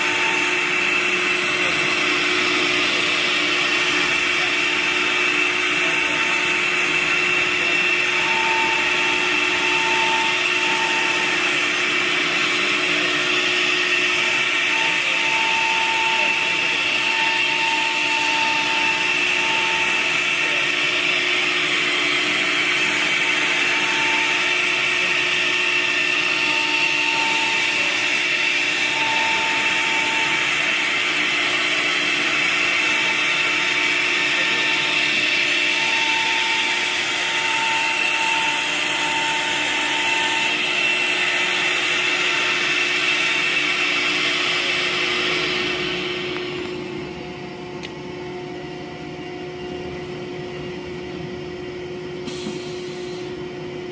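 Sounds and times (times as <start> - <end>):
router cutting wood: 0.0 - 47.9
router spindle whine: 0.0 - 53.9.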